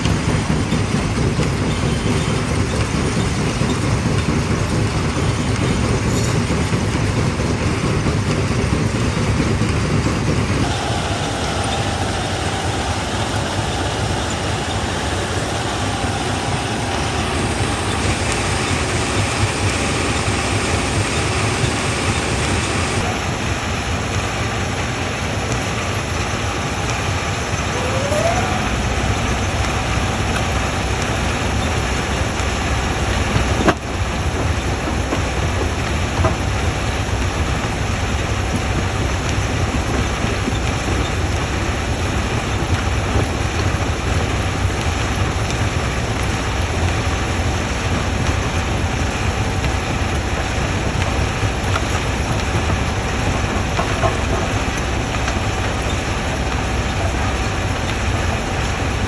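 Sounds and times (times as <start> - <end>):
jaw crusher running: 0.0 - 23.5, 26.8 - 59.0.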